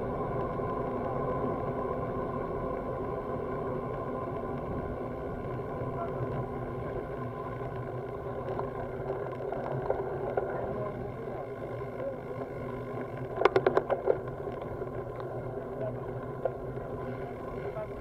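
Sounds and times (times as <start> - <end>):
bicycle road and wind noise: 0.0 - 18.0.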